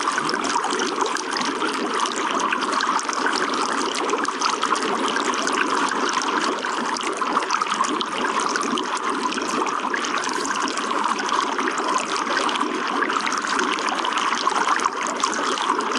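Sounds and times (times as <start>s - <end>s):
water trickling and splashing: 0.0s - 15.9s.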